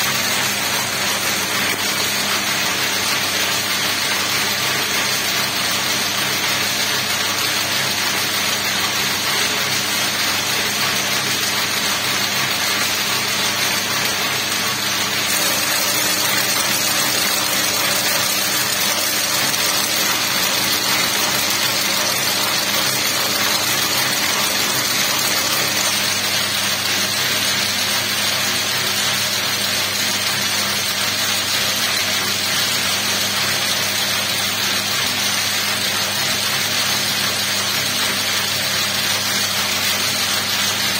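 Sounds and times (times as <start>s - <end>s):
braiding machine whirring: 0.0s - 40.9s.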